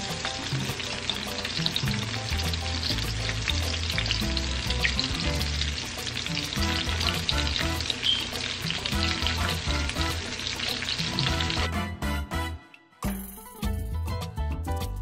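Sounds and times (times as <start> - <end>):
chicken deep-frying in oil: 0.0 - 12.4.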